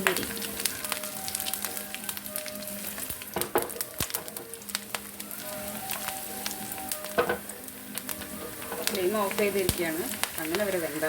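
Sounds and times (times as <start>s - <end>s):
food frying in hot oil: 0.0s - 11.0s.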